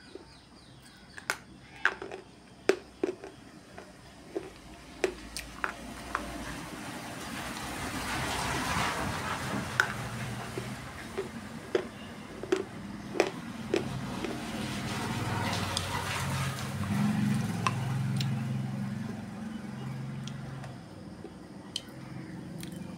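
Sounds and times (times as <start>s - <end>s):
crunchy chewing: 0.0s - 6.6s, 9.8s - 22.9s.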